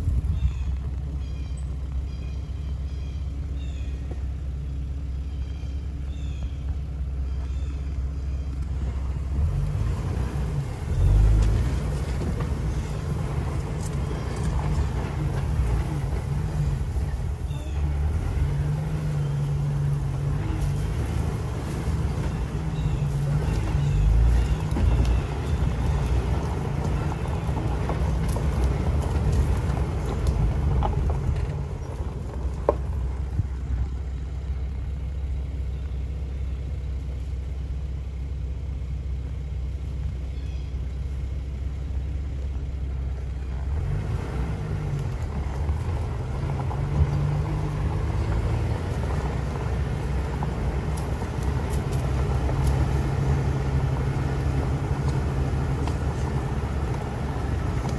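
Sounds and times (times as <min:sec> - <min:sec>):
vehicle engine droning: 0:00.0 - 0:57.9.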